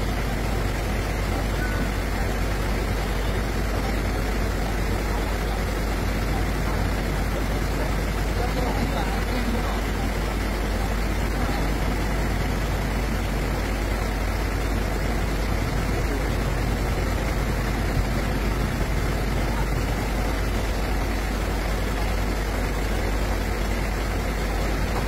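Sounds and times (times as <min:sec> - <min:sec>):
heavy crane engine running: 0:00.0 - 0:25.0.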